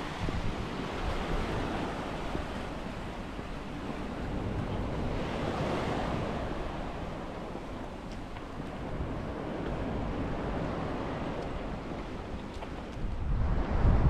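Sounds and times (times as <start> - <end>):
waves breaking on beach: 0.0 - 14.0
wind buffeting microphone: 0.0 - 14.0.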